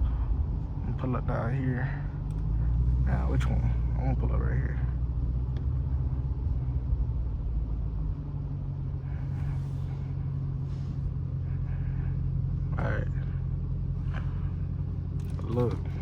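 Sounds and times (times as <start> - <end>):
car engine deep rumble: 0.0 - 16.0.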